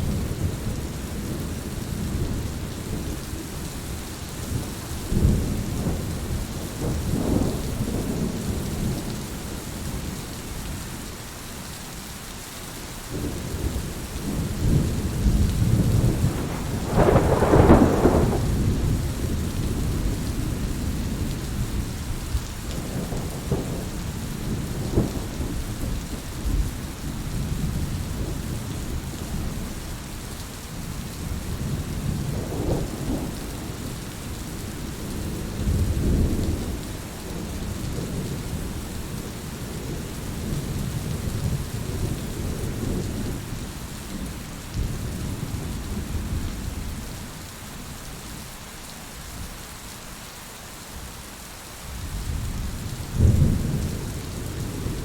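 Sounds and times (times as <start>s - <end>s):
low rolling thunder: 0.0s - 10.2s, 13.1s - 29.9s, 30.8s - 47.9s, 51.9s - 55.0s
heavy rain falling: 0.0s - 55.0s.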